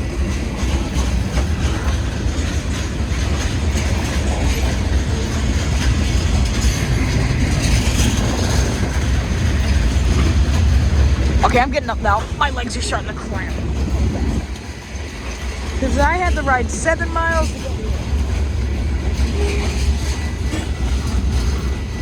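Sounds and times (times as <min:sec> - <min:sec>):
train clatter: 0:00.0 - 0:22.0
train wheels rumbling on rails: 0:00.0 - 0:22.0.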